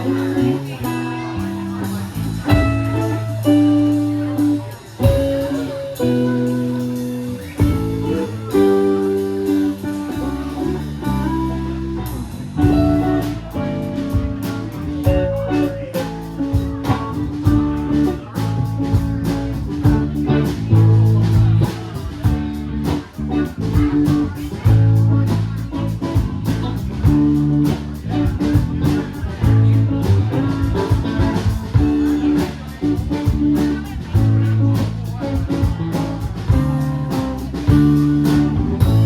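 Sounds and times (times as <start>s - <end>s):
guitar: 0.0s - 39.0s
live blues band playing: 0.0s - 39.0s.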